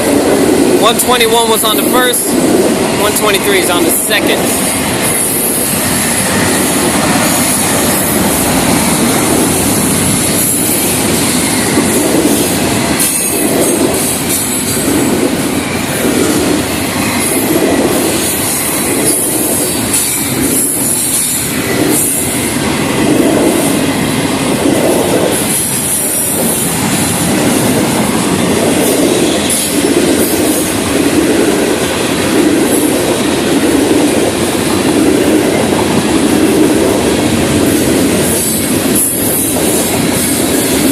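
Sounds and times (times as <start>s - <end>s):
train wheels rumbling and clattering: 0.0s - 40.9s.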